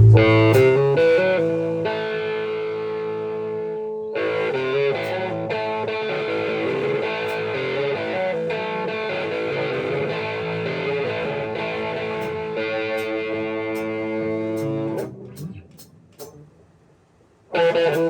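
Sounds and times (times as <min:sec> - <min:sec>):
guitar strumming and picking: 0:00.0 - 0:16.5, 0:17.5 - 0:18.0.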